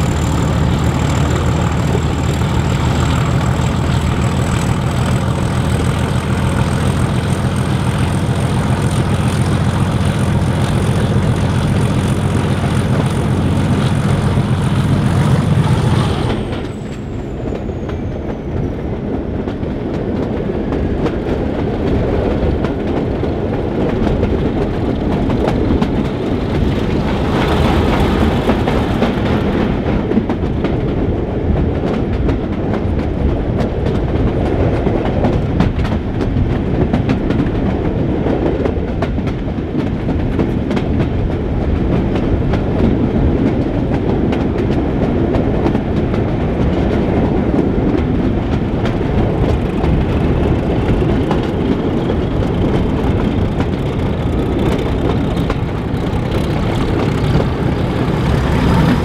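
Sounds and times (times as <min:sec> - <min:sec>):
engine whine: 0:00.0 - 0:31.2, 0:42.5 - 0:59.0
diesel locomotive engine: 0:00.0 - 0:59.0
train wheels clickety-clack on rails: 0:00.0 - 0:59.0.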